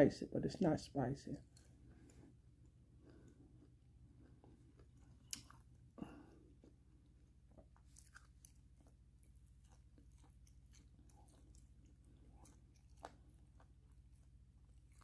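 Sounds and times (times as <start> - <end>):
low steady hum: 0.0 - 15.0
person chewing: 1.4 - 15.0.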